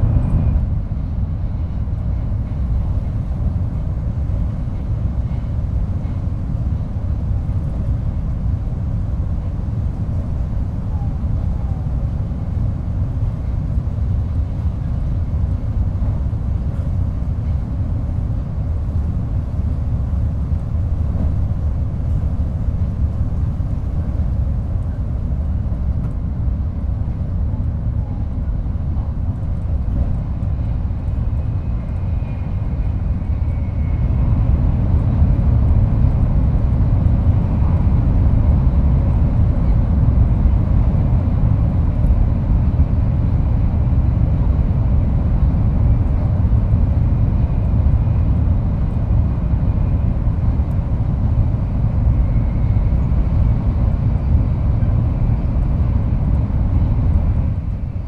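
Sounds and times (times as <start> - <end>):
train running low rumble: 0.0 - 58.0.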